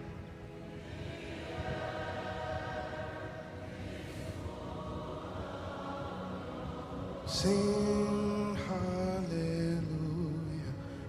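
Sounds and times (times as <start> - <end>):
congregation singing: 0.0 - 10.8.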